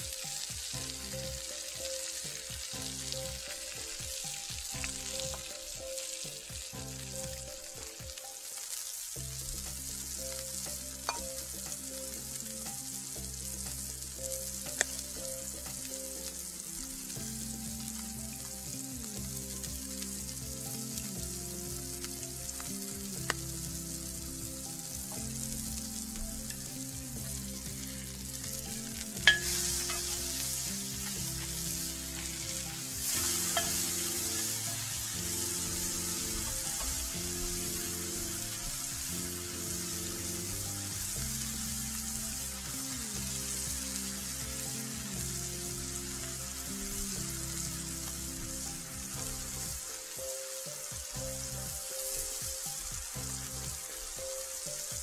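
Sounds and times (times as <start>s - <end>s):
background music: 0.0s - 55.0s
burger patties sizzling on griddle: 0.0s - 55.0s.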